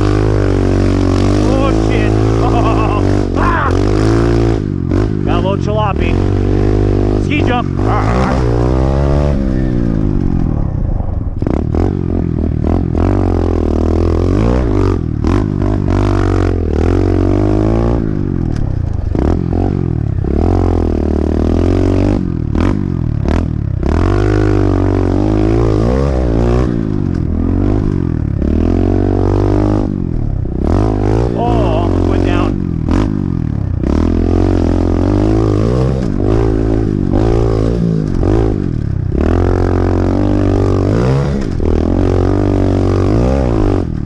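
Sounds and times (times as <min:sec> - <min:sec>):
motorbike engine revving: 0:00.0 - 0:44.0.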